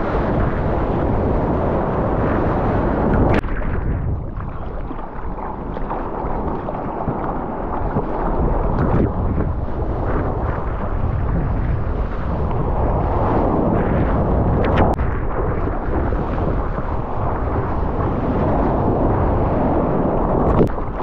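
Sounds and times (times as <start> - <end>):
water rushing: 0.0 - 21.0
wind buffeting microphone: 0.0 - 21.0
water sloshing and splashing: 2.3 - 19.6.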